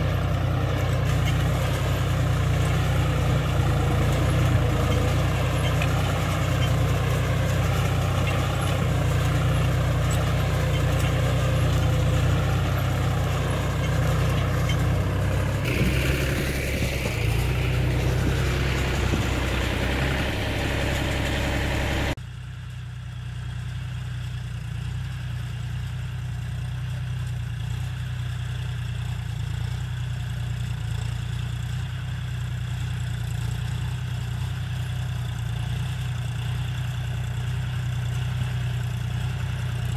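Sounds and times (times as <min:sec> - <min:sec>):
tractor diesel engine under load: 0:00.0 - 0:22.2, 0:26.7 - 0:39.9.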